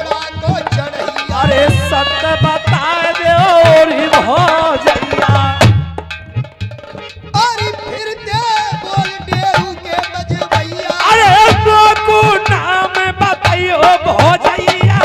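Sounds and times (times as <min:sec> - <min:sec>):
hand drum beating: 0:00.0 - 0:15.0.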